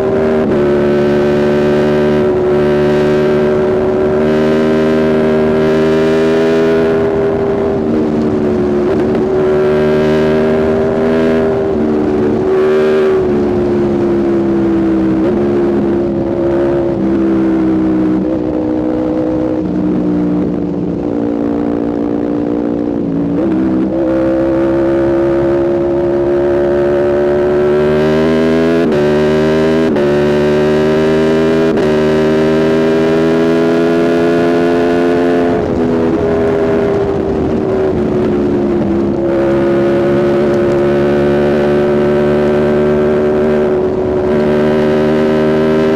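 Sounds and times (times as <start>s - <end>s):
motorcycle engine riding: 0.0s - 45.9s.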